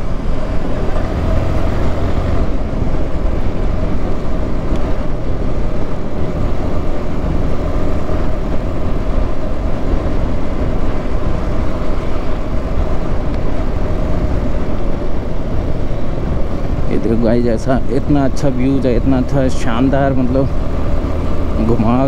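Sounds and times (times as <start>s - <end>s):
motorcycle engine cruising: 0.0s - 22.0s
wind rumble on microphone: 0.0s - 22.0s.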